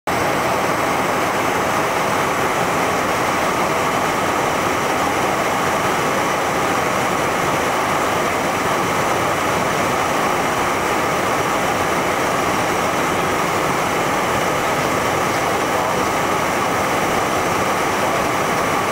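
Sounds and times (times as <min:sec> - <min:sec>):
jet cabin airflow and engine rush: 0:00.1 - 0:18.9.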